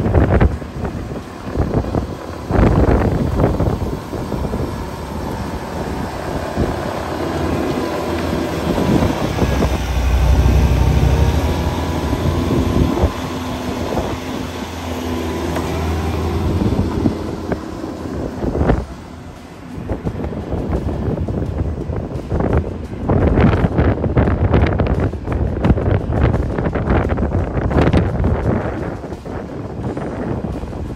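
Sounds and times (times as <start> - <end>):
engine running: 0.0 - 30.9
wind on microphone: 0.0 - 30.9.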